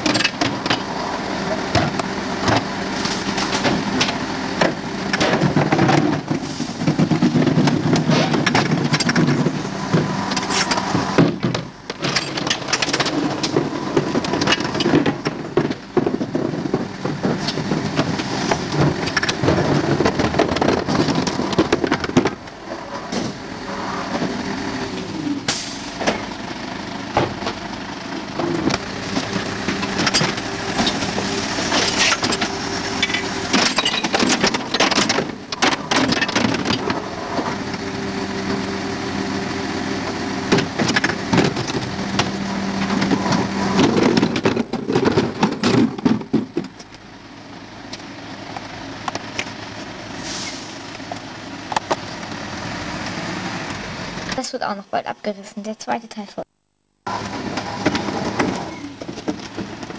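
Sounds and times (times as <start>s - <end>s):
wheelie bins clanking: 0.0s - 54.8s, 57.1s - 59.9s
garbage truck engine and hydraulics hum: 0.0s - 59.9s.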